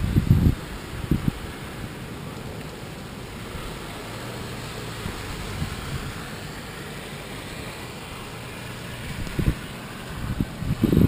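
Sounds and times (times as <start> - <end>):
car passing on wet road: 0.0 - 11.0
rain: 0.0 - 11.0
wind: 0.0 - 11.0.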